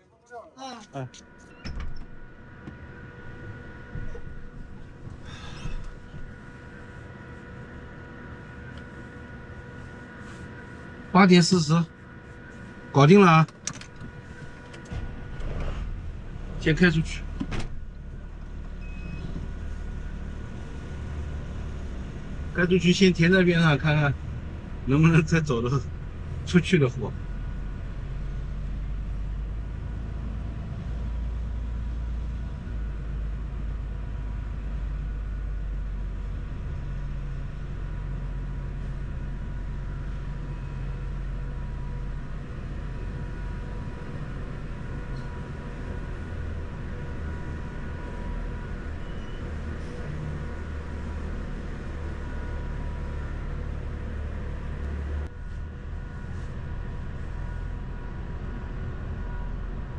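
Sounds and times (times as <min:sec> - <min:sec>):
truck engine low rumble: 0:00.0 - 0:59.9.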